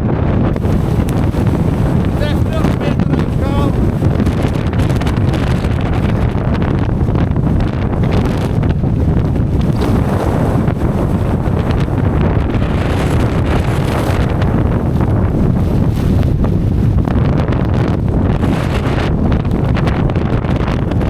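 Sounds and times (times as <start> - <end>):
wind blasting across microphone: 0.0 - 21.0.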